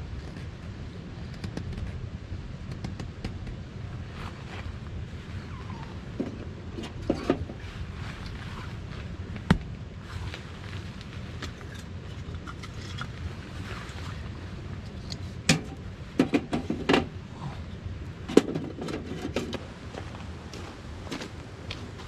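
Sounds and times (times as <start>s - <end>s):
steady low background noise: 0.0s - 22.0s.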